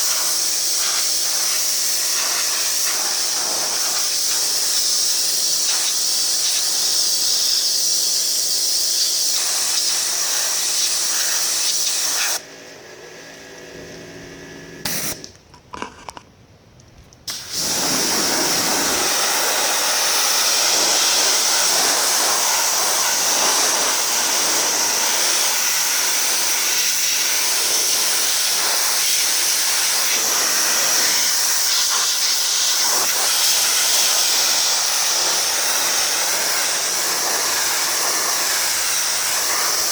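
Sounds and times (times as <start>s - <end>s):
pressure washer spraying water: 0.0s - 12.4s, 14.8s - 15.3s, 17.3s - 39.9s.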